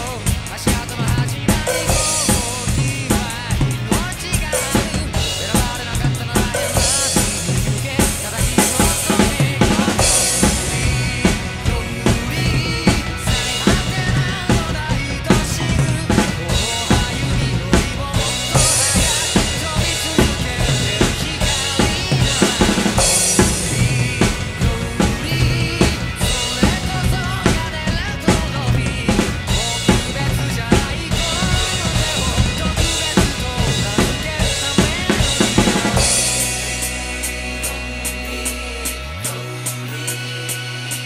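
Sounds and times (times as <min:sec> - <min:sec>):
drum kit rock beat: 0:00.0 - 0:41.0
rock band recording: 0:00.0 - 0:41.0.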